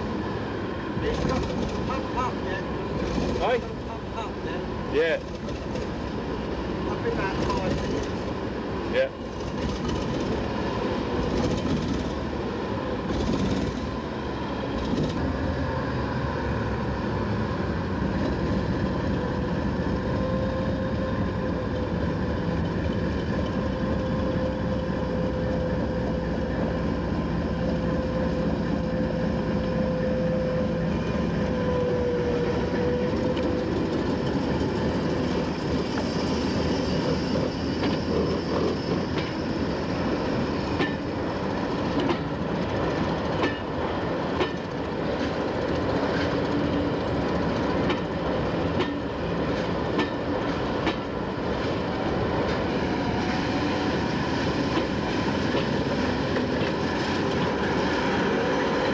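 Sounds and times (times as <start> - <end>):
train running on track: 0.0 - 58.9.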